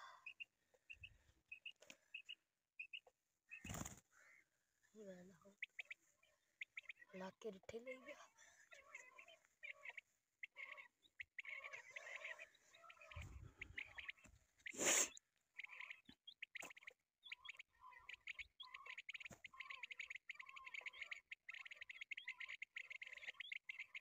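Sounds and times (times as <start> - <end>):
bird chirps and trills: 0.0 - 4.4, 5.0 - 24.0.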